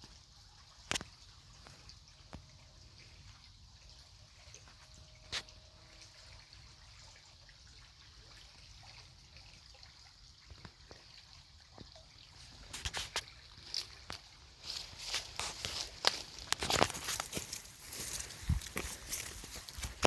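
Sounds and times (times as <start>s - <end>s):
faint trickling water: 0.0s - 20.0s.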